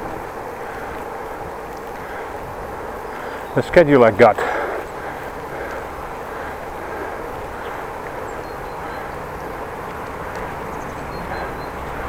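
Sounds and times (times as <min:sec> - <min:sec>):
bicycle tyres rolling on street: 0:00.0 - 0:12.0
wind rumbling on microphone: 0:00.0 - 0:12.0.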